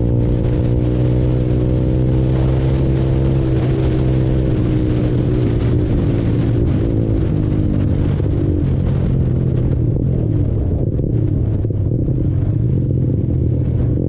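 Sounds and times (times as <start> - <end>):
motorcycle engine cruising: 0.0 - 14.0
wind rushing: 0.0 - 14.0.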